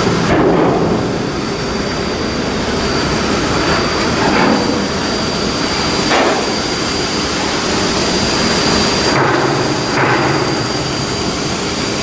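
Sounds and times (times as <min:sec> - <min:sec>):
high whine: 0:00.0 - 0:12.0
loud machinery noise: 0:00.0 - 0:12.0.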